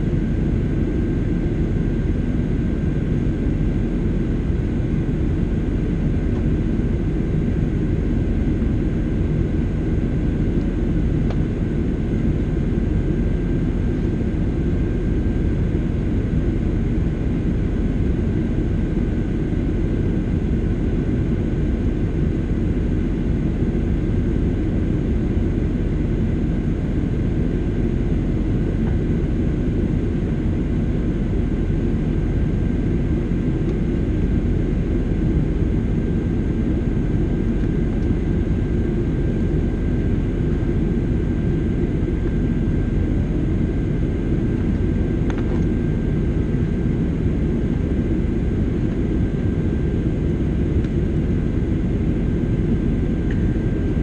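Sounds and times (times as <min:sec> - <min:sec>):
jet engine low rumble: 0:00.0 - 0:54.0.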